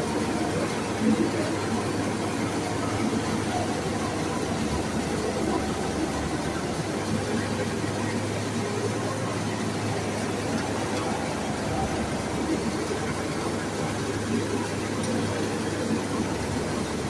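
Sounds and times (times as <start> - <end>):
mill machinery drone: 0.0 - 17.0.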